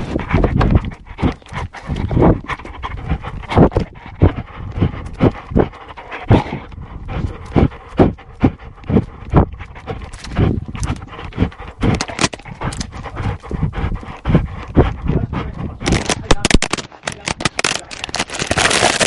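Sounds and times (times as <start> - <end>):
dog panting: 0.0 - 16.8.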